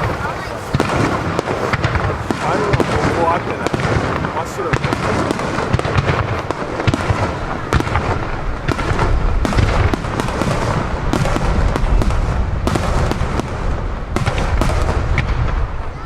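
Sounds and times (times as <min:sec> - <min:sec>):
fireworks bursts and booms: 0:00.0 - 0:16.0
fireworks crackle: 0:00.0 - 0:16.0.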